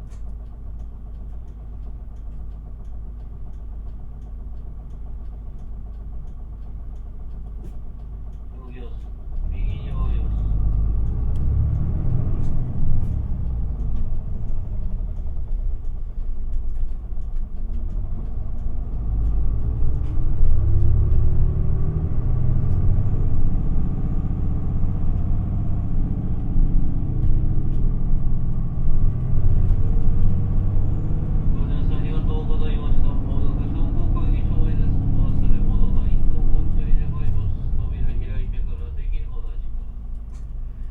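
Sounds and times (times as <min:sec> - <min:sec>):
bus diesel engine: 0:00.0 - 0:40.9
road rumble: 0:00.0 - 0:40.9.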